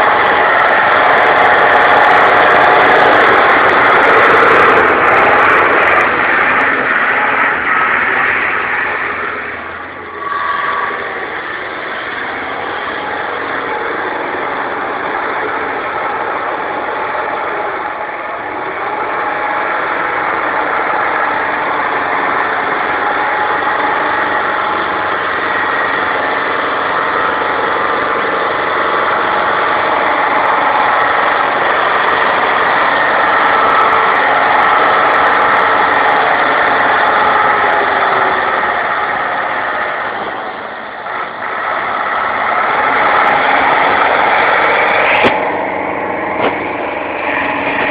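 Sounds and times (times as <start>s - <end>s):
diesel van engine under throttle: 0.0s - 47.9s.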